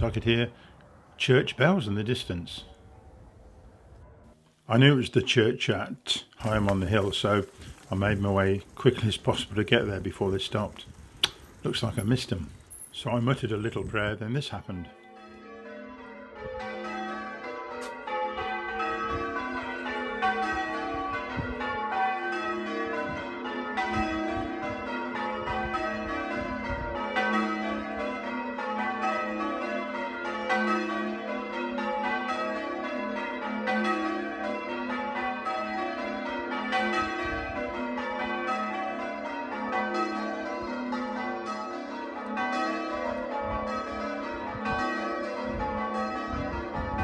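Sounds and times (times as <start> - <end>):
church bells pealing: 6.4 - 47.0.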